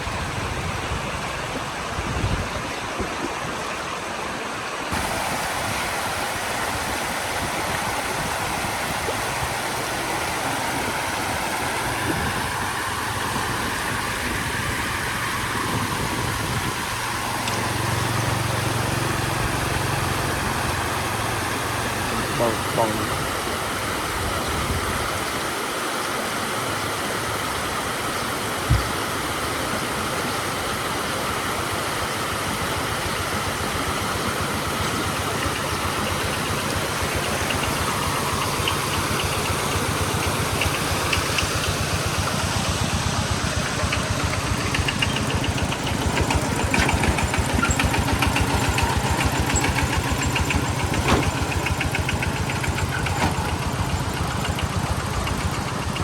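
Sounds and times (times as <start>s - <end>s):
motor engine running: 4.9s - 56.0s.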